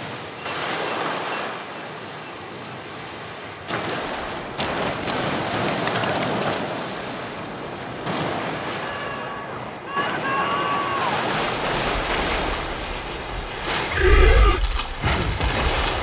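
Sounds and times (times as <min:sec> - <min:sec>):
ocean waves breaking on rocks: 0:00.0 - 0:16.0.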